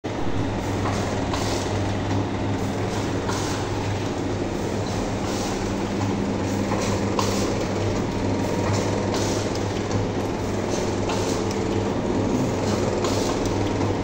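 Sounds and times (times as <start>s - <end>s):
packing machine hum: 0.0s - 14.0s.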